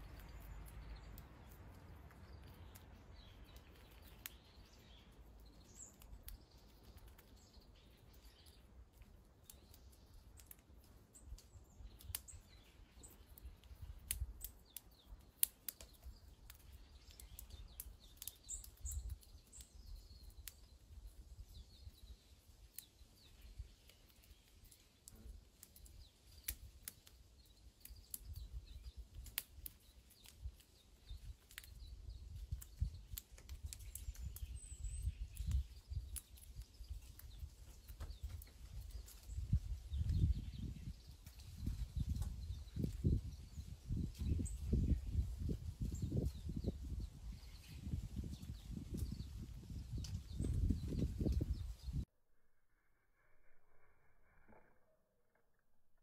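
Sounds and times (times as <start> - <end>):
faint bird chirps: 9.4 - 56.0.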